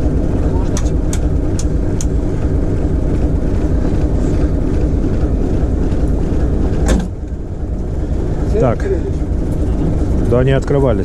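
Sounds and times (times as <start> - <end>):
locomotive diesel engine running: 0.0 - 11.0.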